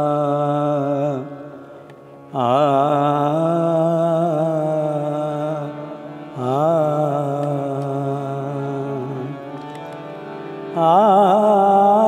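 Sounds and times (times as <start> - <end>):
man singing long wavering notes: 0.0 - 1.6, 2.3 - 9.6, 10.7 - 12.0
harmonium: 0.0 - 12.0.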